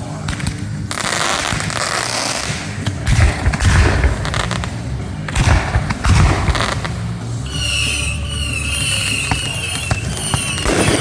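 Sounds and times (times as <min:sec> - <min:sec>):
fireworks crackling: 0:00.0 - 0:11.0
deep fireworks booms: 0:00.2 - 0:11.0.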